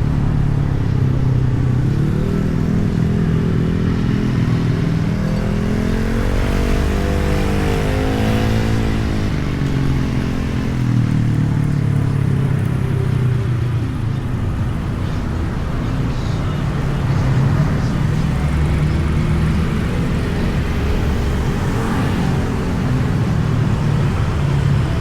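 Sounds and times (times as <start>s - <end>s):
motorcycle engine accelerating: 0.0s - 25.0s
wind and road noise: 0.0s - 25.0s.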